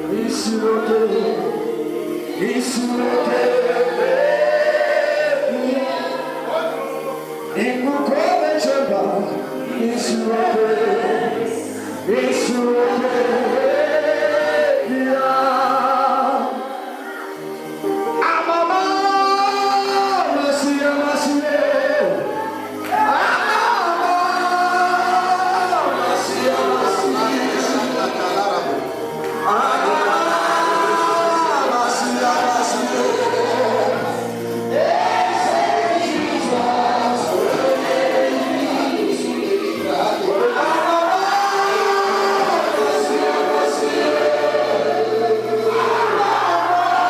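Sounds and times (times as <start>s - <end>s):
man singing: 0.0s - 16.8s, 18.0s - 47.0s
group singing: 0.0s - 47.0s
sustained musical accompaniment: 0.0s - 47.0s.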